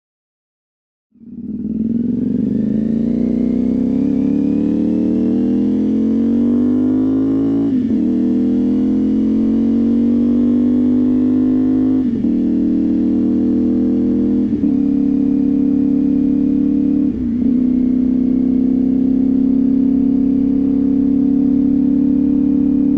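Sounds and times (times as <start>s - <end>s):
motorcycle engine accelerating: 1.1s - 22.9s.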